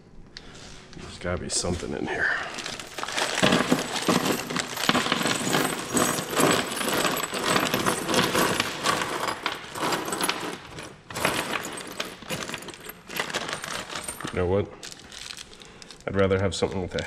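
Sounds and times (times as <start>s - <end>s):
metal bolts and screws clinking: 2.5s - 17.0s.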